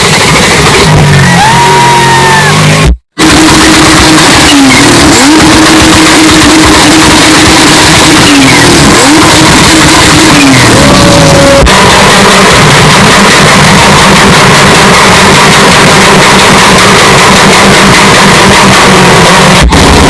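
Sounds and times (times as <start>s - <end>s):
engine revving high: 0.0s - 20.0s.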